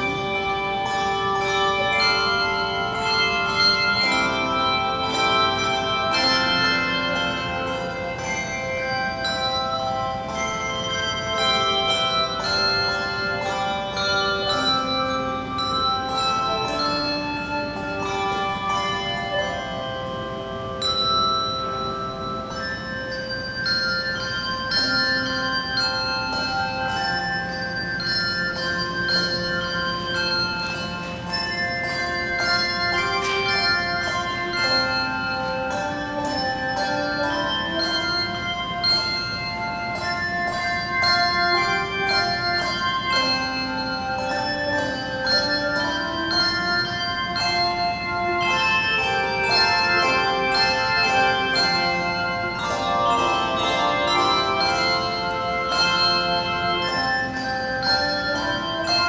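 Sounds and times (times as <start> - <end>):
handbell choir playing: 0.0 - 59.0.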